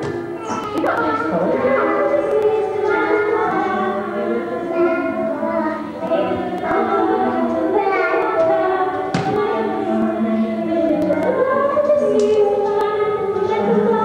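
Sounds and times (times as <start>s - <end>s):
choir singing long notes: 0.0s - 14.0s.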